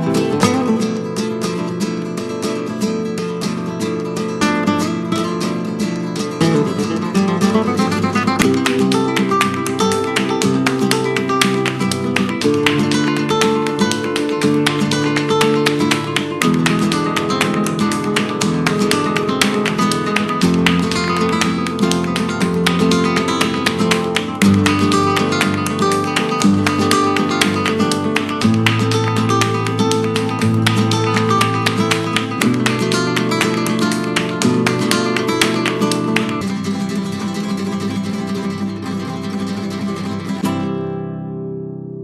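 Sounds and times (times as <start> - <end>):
flamenco acoustic guitar: 0.0 - 42.0.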